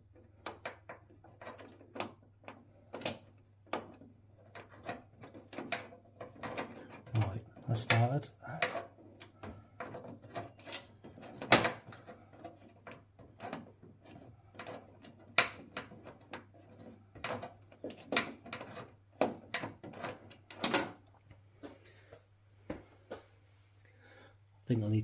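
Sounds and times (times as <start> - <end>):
hand tools clicking and knocking: 0.0 - 21.1.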